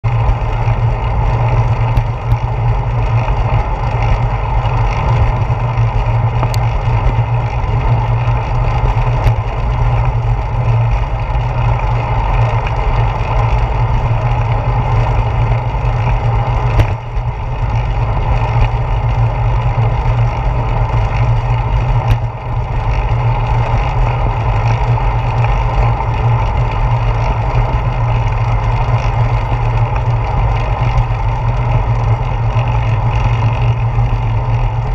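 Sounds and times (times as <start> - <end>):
bicycle road rumble: 0.0 - 34.9.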